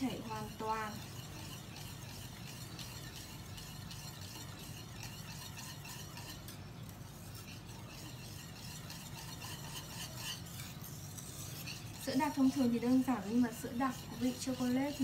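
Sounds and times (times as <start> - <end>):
whisk clinking and scraping pan: 0.0 - 15.0.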